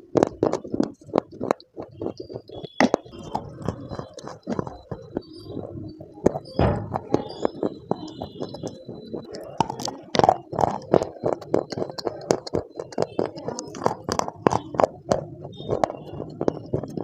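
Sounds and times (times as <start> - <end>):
crunching and chewing: 0.0 - 17.0.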